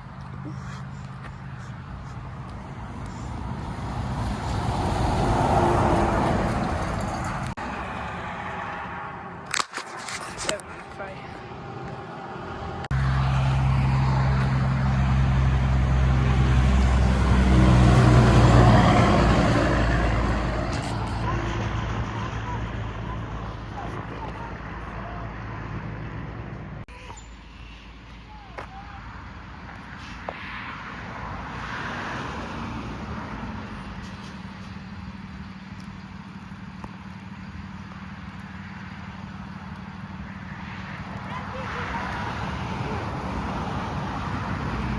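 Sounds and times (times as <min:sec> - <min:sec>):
diesel truck engine passing: 0:00.0 - 0:09.5, 0:10.5 - 0:26.9, 0:29.0 - 0:44.9.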